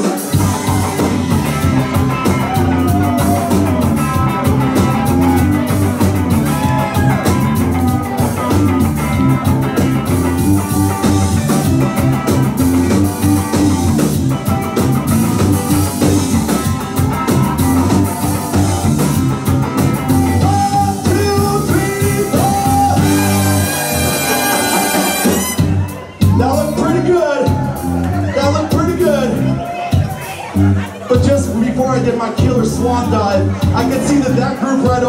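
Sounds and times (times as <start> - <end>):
ska band playing: 0.0 - 35.0
repeating bass line: 0.3 - 29.6.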